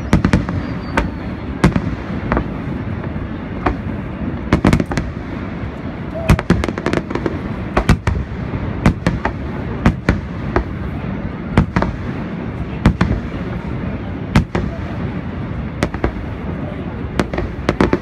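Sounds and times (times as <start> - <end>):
fireworks bursting: 0.0 - 18.0
low background rumble: 0.0 - 18.0.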